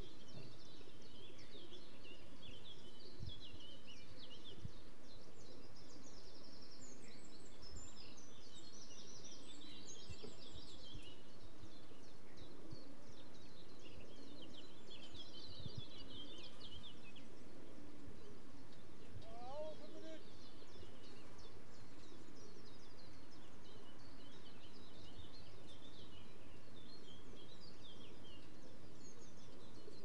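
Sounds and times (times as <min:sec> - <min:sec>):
low outdoor hum: 0:00.0 - 0:30.0
small songbirds chirping: 0:00.0 - 0:30.0.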